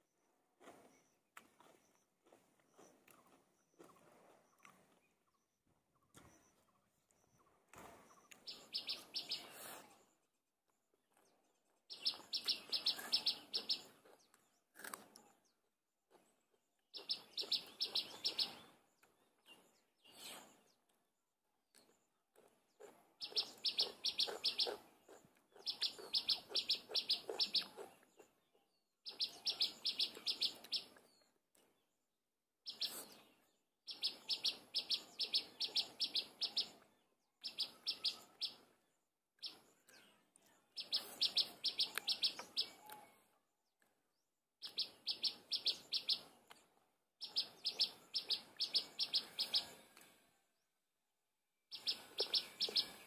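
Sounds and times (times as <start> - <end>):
bird singing: 0.8 - 9.6, 11.2 - 15.6, 16.6 - 20.8, 22.7 - 31.9, 32.6 - 46.6, 47.2 - 50.0, 51.7 - 53.0.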